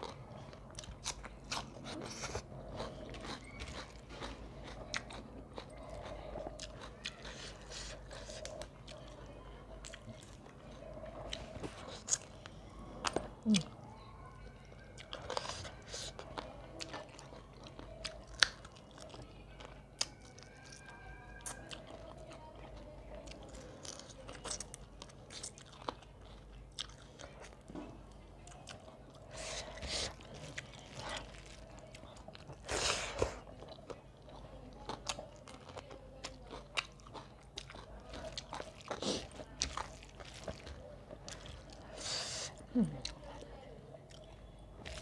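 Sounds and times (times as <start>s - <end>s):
person chewing with wet clicks: 0.0s - 45.0s.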